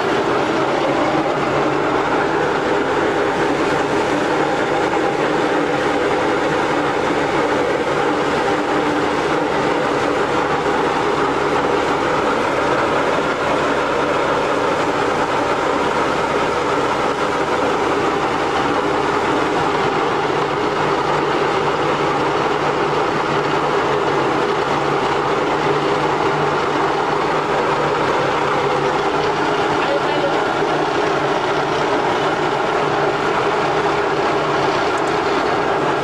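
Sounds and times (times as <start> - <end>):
road roller engine humming: 0.0 - 36.0.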